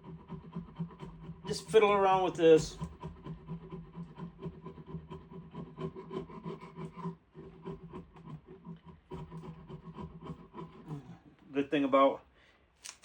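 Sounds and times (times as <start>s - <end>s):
scraping wood by hand: 0.0s - 11.2s.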